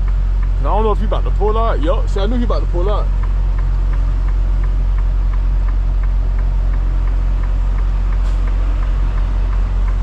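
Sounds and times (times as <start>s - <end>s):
diesel truck engine idling: 0.0s - 10.0s
light ticking: 0.0s - 10.0s.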